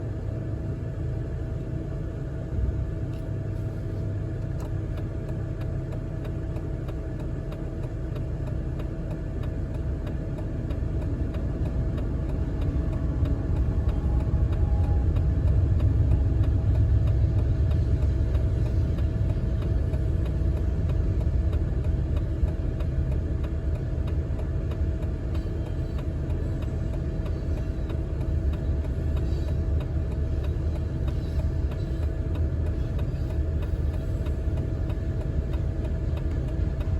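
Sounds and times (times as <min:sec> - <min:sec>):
freight train rumbling by: 0:00.0 - 0:36.9
locomotive engine drone: 0:00.0 - 0:36.9.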